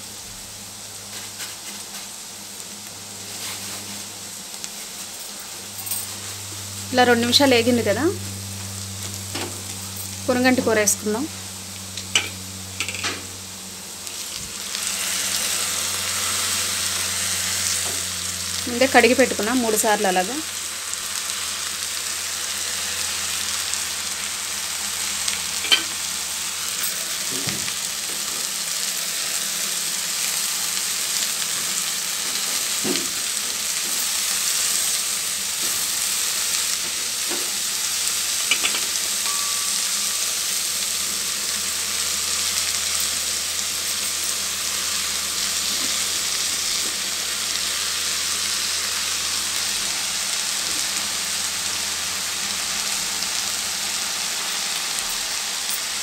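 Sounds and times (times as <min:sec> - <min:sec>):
greens sizzling in hot oil: 0:00.0 - 0:56.0.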